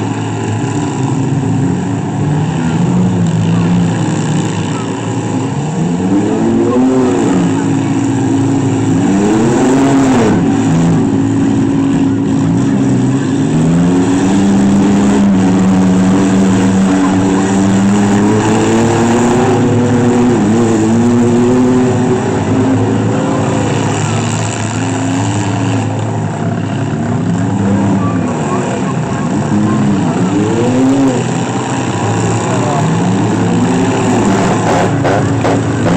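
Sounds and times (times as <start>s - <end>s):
vehicle engines revving: 0.0s - 35.9s.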